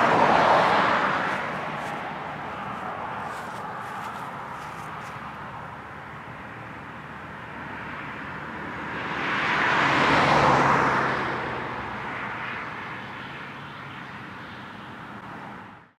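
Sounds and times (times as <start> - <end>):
car passing by: 0.0 - 15.8.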